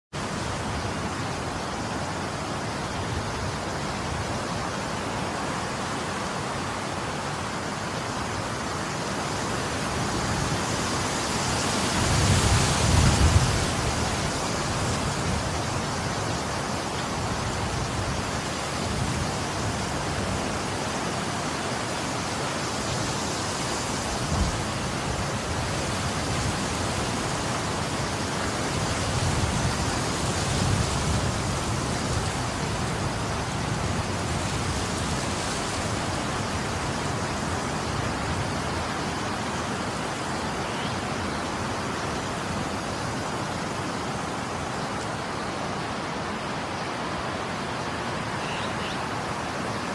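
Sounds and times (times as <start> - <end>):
wind gusts: 0.1 - 49.9.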